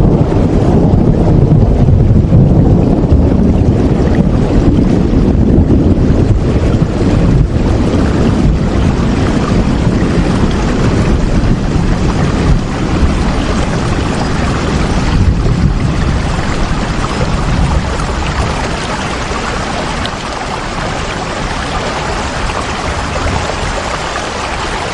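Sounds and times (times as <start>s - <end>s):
heavy rain: 0.0s - 24.9s.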